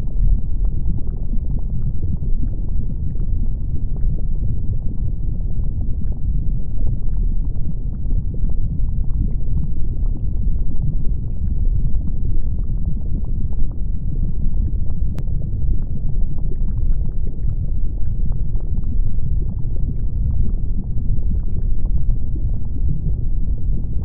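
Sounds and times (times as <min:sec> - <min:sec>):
crackles and pops: 0:00.0 - 0:24.0
deep lava rumble: 0:00.0 - 0:24.0.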